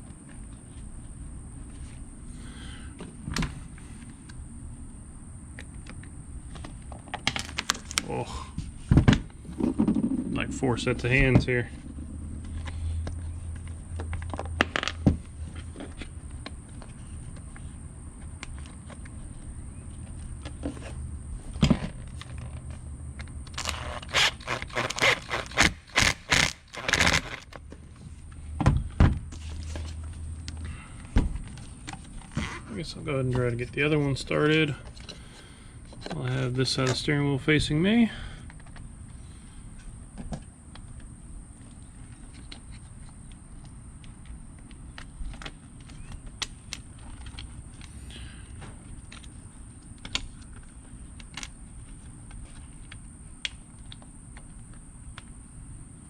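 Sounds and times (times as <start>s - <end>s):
faint high whine: 0.0s - 56.0s
low steady rumble: 0.0s - 56.0s
steady low hum: 0.0s - 56.0s.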